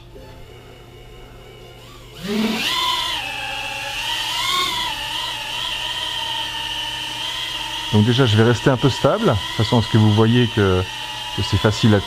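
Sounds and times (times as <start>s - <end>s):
quadcopter propeller whine: 0.0s - 12.0s.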